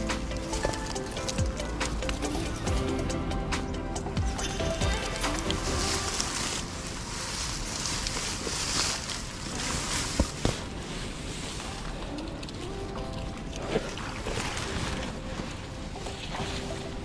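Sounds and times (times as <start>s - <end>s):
grass and reeds rustling: 0.0s - 17.0s.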